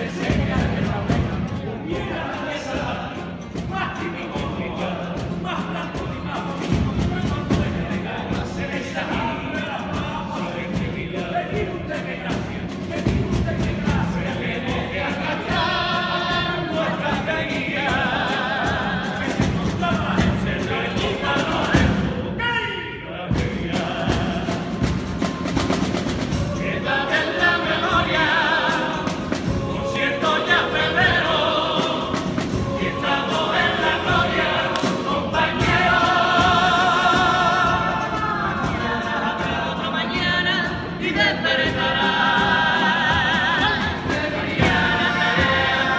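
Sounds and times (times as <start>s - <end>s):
men singing as a choir: 0.0s - 22.4s, 23.0s - 45.9s.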